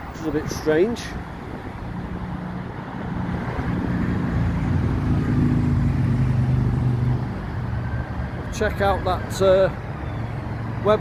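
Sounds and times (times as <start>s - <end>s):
busy road traffic: 0.0s - 11.0s
vehicle engine hum: 0.0s - 11.0s.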